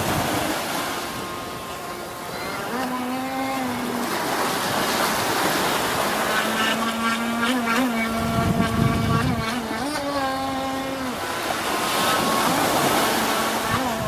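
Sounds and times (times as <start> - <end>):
electric boat motor whining: 0.0 - 14.0
water and wind noise: 0.0 - 14.0.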